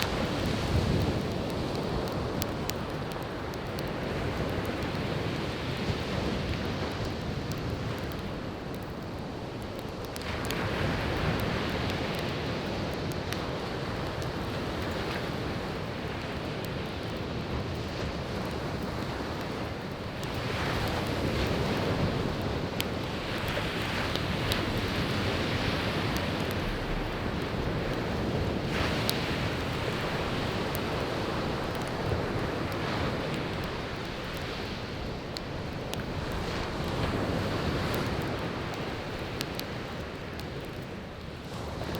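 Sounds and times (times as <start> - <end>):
firewood crackling: 0.0 - 41.9
sea waves washing on beach: 0.0 - 41.9.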